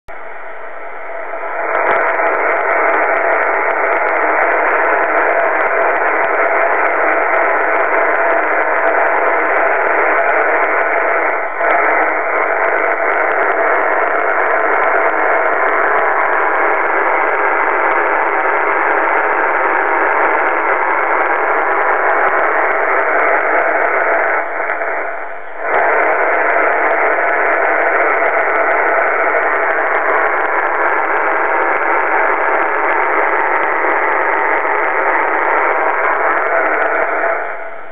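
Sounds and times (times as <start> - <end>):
faint steady tones: 0.1 - 37.9
radio static hash: 0.1 - 37.9.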